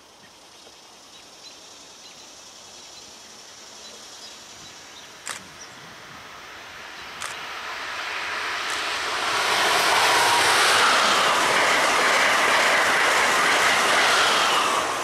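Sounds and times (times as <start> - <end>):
approaching train rushing: 1.6 - 15.0.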